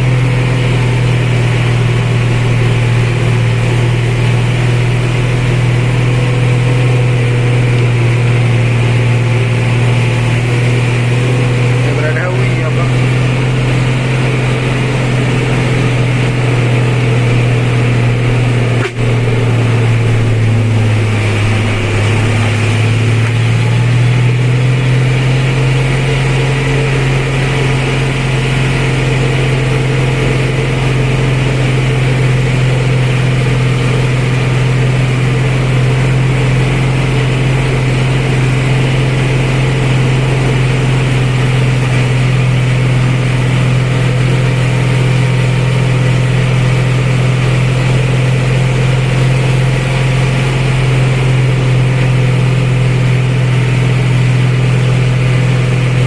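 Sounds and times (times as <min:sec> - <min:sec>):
truck engine droning: 0:00.0 - 0:56.0.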